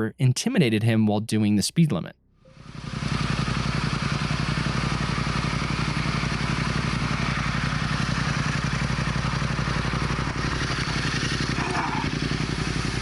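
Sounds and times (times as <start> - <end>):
motorcycle engine running: 2.5 - 13.0.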